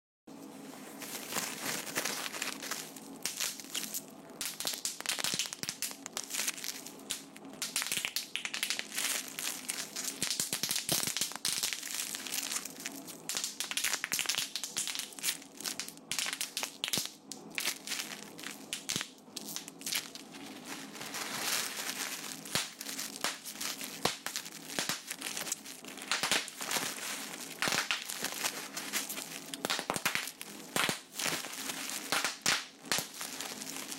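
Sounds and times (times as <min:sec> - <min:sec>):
dense crinkling and crackling: 0:00.3 - 0:33.9
faint low hum: 0:00.3 - 0:33.9.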